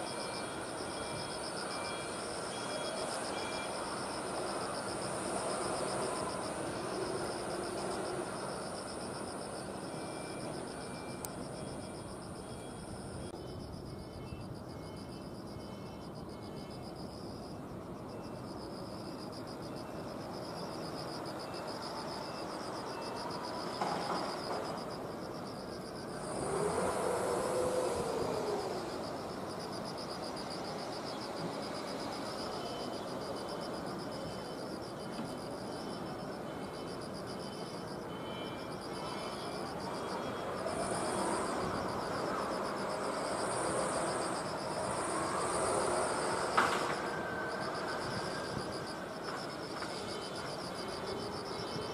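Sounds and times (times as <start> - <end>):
insects chirping trills: 0.0 - 51.9.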